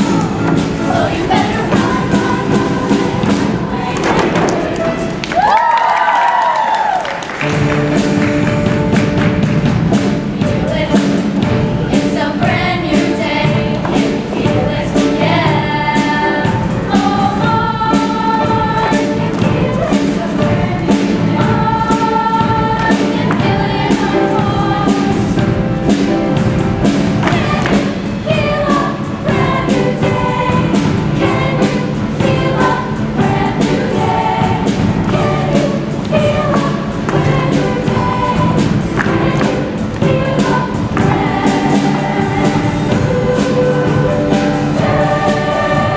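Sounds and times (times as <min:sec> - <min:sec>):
choir singing: 0:00.0 - 0:05.6, 0:09.9 - 0:45.9
instrumental accompaniment with beat: 0:00.0 - 0:45.9.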